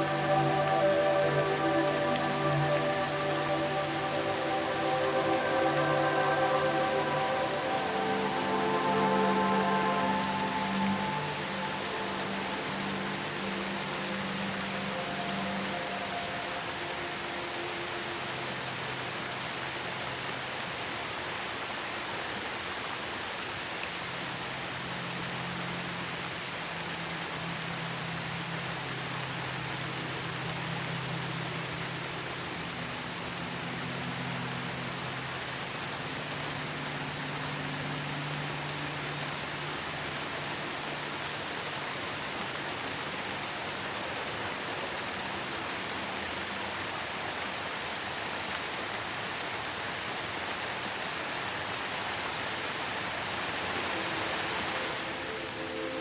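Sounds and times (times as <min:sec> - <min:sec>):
ambient music held tones: 0:00.0 - 0:22.0, 0:22.7 - 0:56.0
steady rain: 0:00.0 - 0:56.0.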